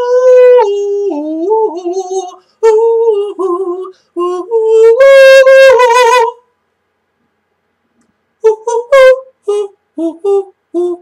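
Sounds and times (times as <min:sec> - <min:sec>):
man singing unaccompanied: 0:00.0 - 0:06.6, 0:08.4 - 0:11.0.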